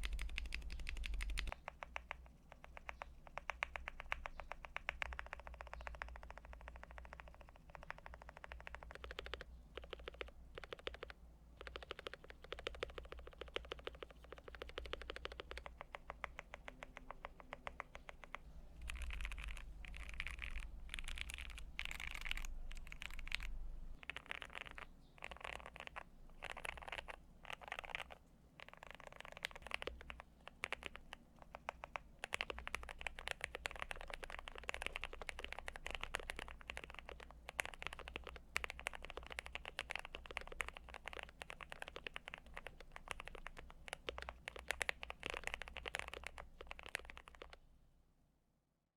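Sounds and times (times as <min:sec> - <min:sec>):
mechanical keyboard typing: 0:00.0 - 0:47.6.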